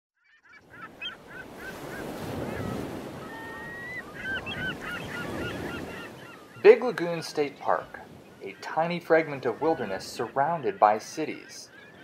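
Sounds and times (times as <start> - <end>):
birds calling: 0.3 - 12.0.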